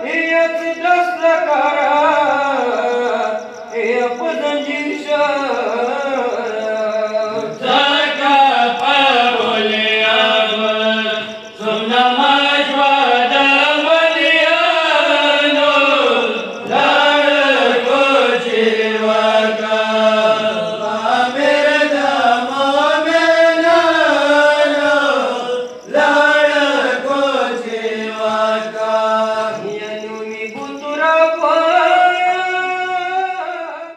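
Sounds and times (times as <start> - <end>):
person chanting a lament: 0.0 - 33.9.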